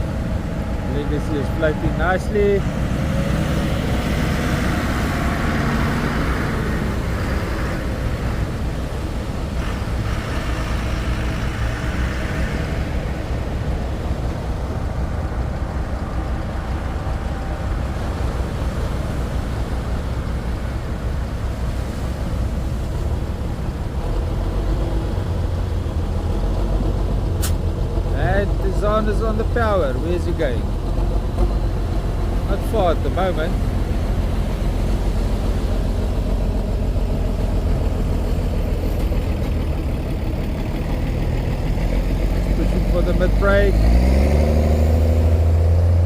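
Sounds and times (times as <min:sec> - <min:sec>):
engines rumbling: 0:00.0 - 0:46.0.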